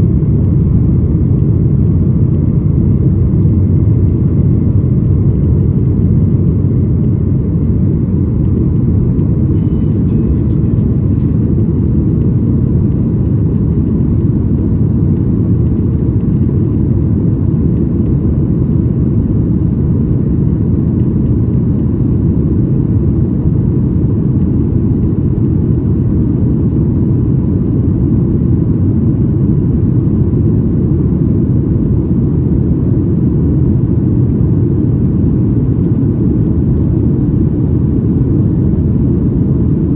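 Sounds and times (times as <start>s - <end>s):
jet cabin low rumble: 0.0s - 39.9s.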